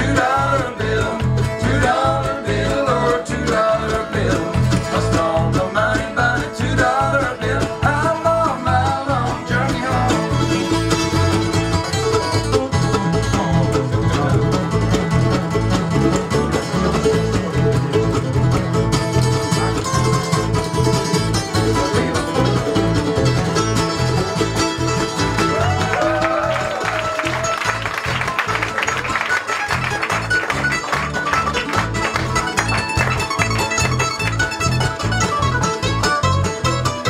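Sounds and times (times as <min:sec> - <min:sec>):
acoustic guitar: 0:00.0 - 0:37.0
banjo: 0:00.0 - 0:37.0
bluegrass band playing: 0:00.0 - 0:37.0.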